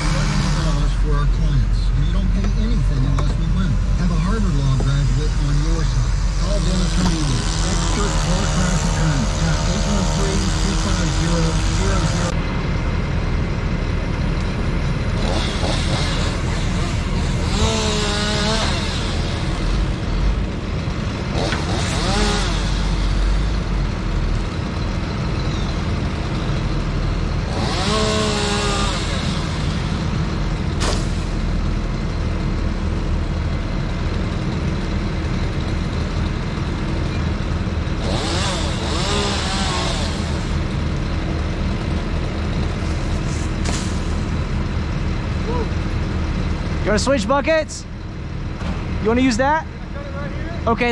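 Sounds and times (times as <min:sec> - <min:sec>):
truck engine rumbling: 0:00.0 - 0:50.9.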